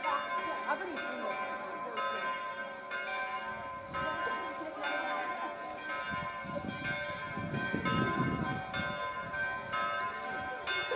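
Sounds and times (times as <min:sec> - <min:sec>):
church bells ringing: 0:00.0 - 0:10.9.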